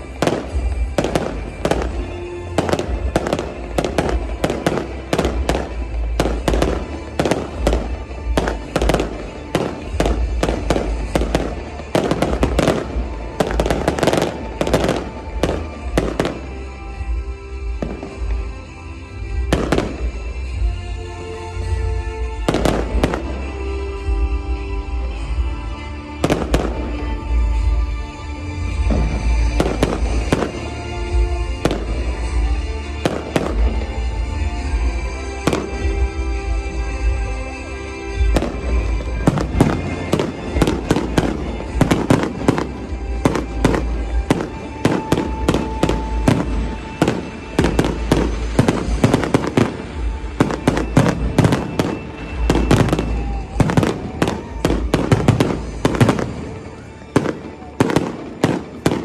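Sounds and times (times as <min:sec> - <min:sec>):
fireworks bangs and crackles: 0:00.0 - 0:59.0
music playing: 0:00.0 - 0:59.0.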